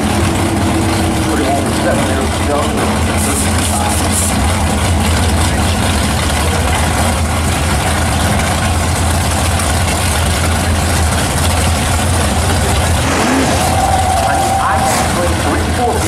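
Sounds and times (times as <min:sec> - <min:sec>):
race car engines idling loudly: 0:00.0 - 0:16.0.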